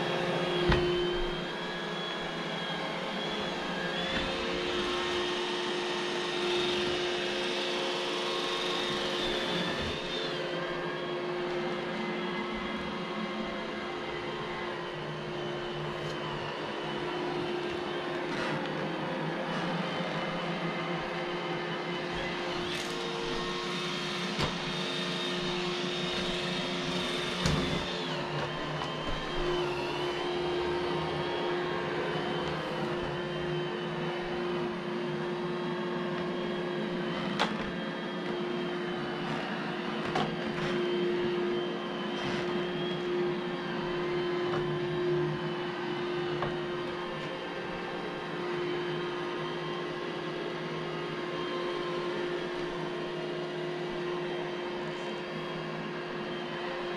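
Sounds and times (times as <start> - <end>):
robot vacuum humming: 0.0 - 56.9.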